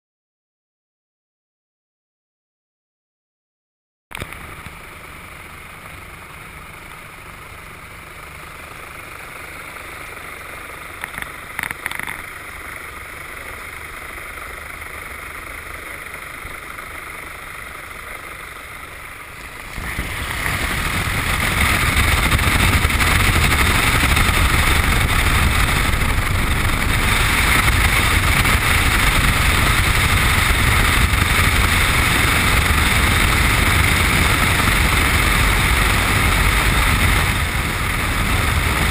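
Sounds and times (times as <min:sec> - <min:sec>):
light aircraft engine running: 0:04.1 - 0:38.9.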